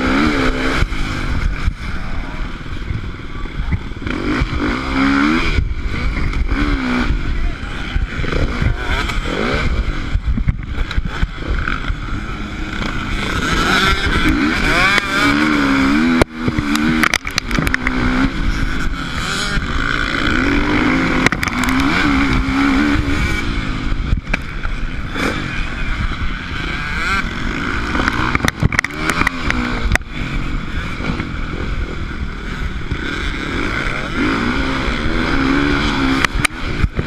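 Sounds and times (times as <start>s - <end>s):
motorcycle engine revving: 0.0s - 37.0s
wind rumble on microphone: 0.0s - 37.0s.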